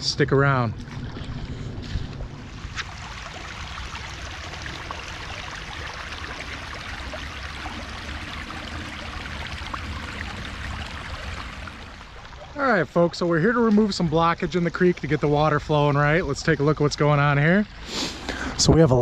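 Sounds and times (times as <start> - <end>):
creek water trickling: 0.3 - 19.0.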